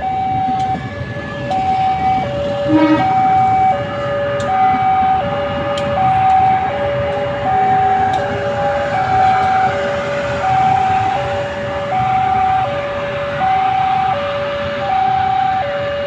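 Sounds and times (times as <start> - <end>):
two-tone warning signal: 0.0 - 16.0.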